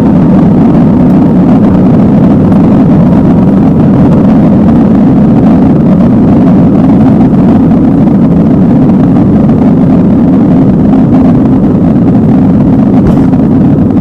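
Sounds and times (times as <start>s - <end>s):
jet engine rumble in cabin: 0.0s - 14.0s.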